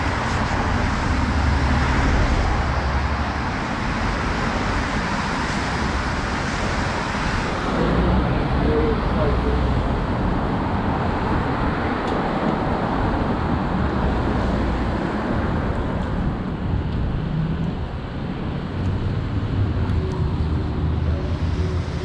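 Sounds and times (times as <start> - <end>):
passing cars rumbling: 0.0 - 22.0.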